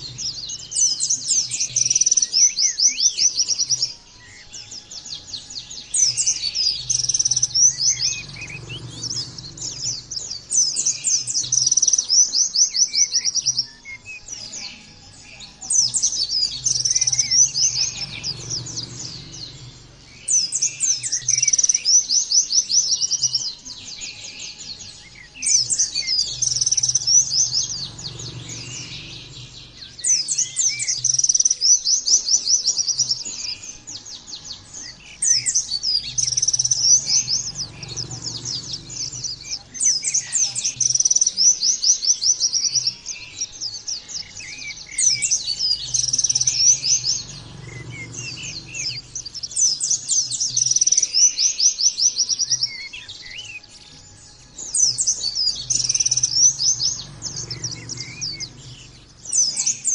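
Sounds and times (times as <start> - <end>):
bird singing high trills: 0.0 - 59.9.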